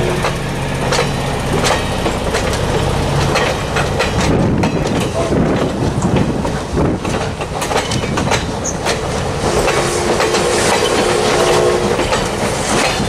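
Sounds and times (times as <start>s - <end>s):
train wheels rumbling on rails: 0.0s - 13.0s
wheels clicking over track joints: 0.0s - 13.0s.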